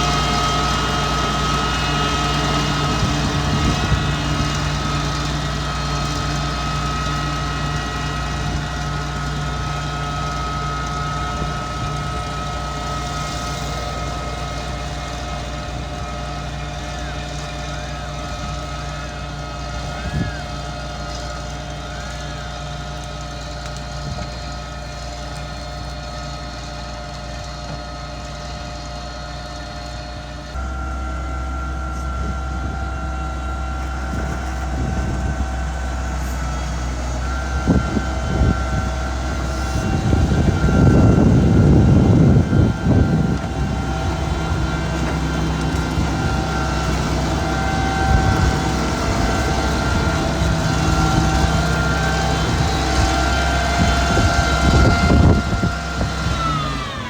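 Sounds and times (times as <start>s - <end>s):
rough grinding noise: 0.0s - 30.6s, 31.9s - 57.0s
diesel engine running: 0.0s - 57.0s.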